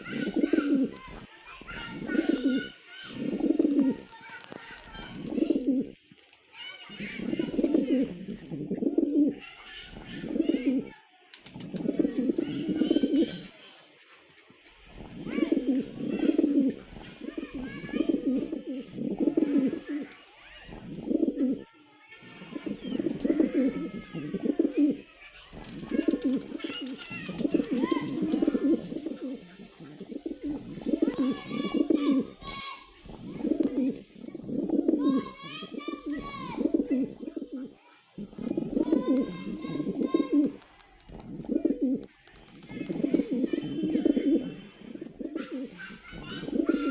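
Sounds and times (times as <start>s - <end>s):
pigeons cooing: 0.0s - 4.1s, 4.9s - 6.0s, 6.9s - 13.5s, 14.7s - 21.6s, 22.4s - 46.9s.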